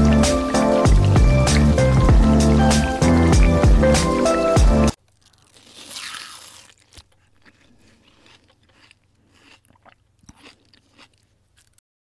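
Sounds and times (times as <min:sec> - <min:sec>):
person chewing food: 0:00.0 - 0:04.2, 0:04.8 - 0:11.8.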